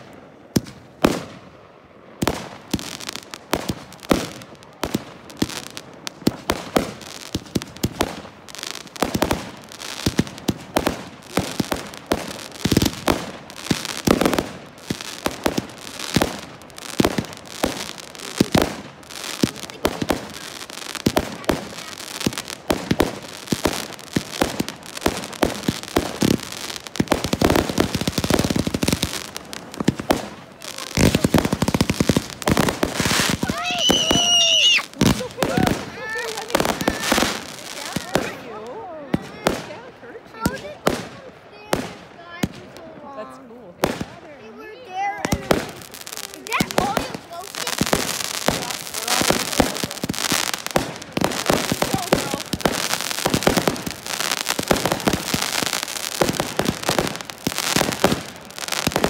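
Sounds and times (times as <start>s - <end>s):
fireworks bursting with crackling: 0.0s - 59.0s.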